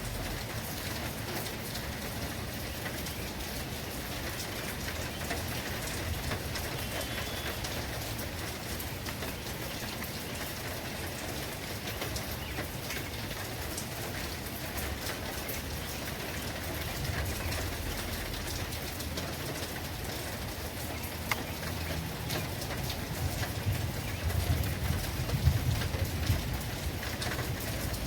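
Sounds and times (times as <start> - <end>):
rain falling on a surface: 0.0 - 28.0.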